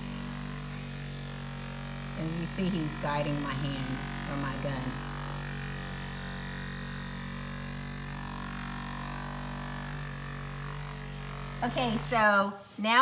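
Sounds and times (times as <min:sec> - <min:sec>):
massage gun motor buzzing: 0:00.0 - 0:13.0.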